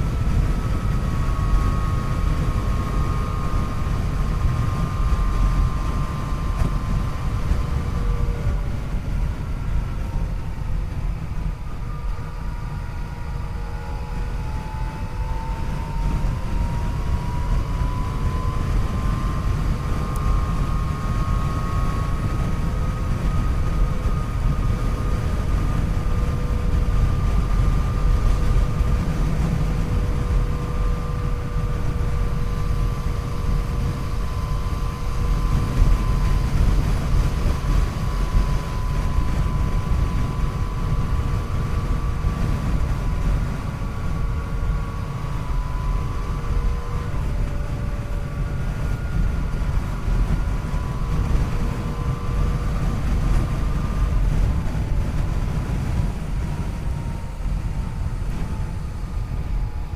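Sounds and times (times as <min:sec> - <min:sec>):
low rumble: 0:00.0 - 0:59.9.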